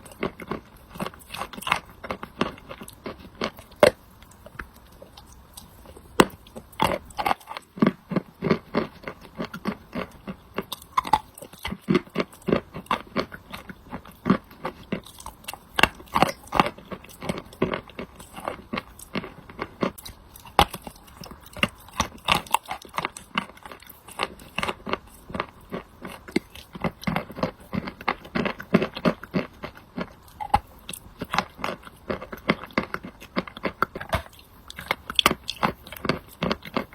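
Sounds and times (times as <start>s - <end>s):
crunchy chewing: 0.0s - 36.9s.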